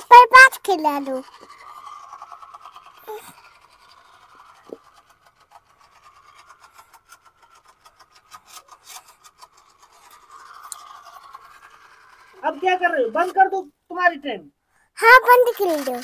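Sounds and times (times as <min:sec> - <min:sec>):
light clicks of wheels on track: 0:00.0 - 0:12.6, 0:15.1 - 0:16.0
toy train motor whirring: 0:00.0 - 0:13.6, 0:14.8 - 0:16.0.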